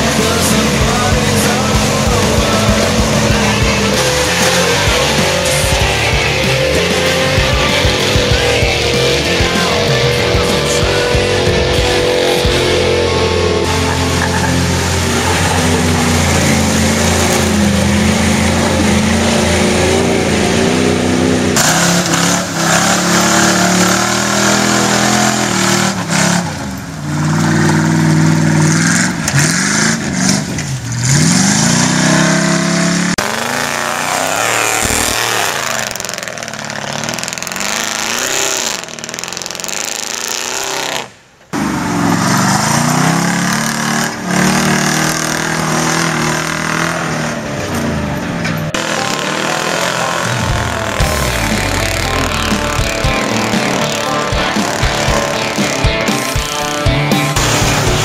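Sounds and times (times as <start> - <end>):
truck engines revving hard: 0.0 - 58.0.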